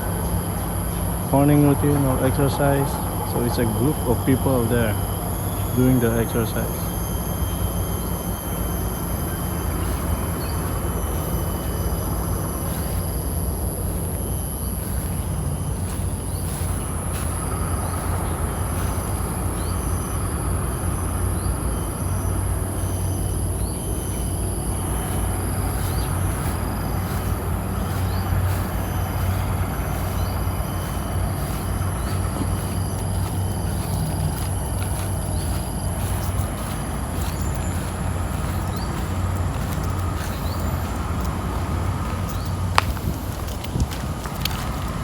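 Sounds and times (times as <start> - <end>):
outdoor background rumble: 0.0 - 45.0.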